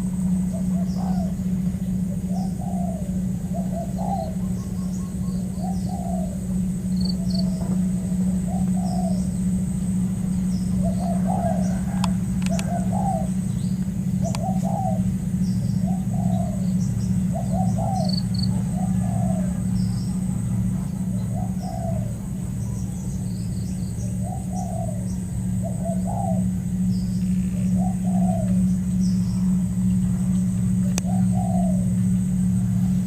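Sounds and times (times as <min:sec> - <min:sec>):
dove cooing: 0:00.0 - 0:33.0
steady low hum: 0:00.0 - 0:33.0
thin high whine: 0:00.0 - 0:33.0.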